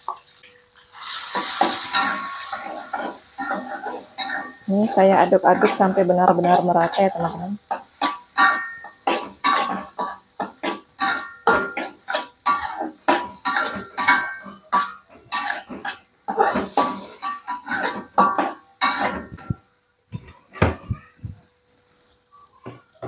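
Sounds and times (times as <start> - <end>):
metal spatula scraping a wok: 0.1 - 19.8.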